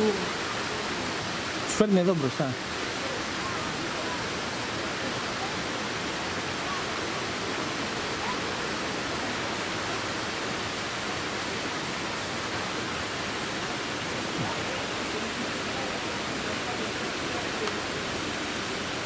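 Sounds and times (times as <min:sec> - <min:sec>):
waterfall rushing into pool: 0:00.0 - 0:19.0.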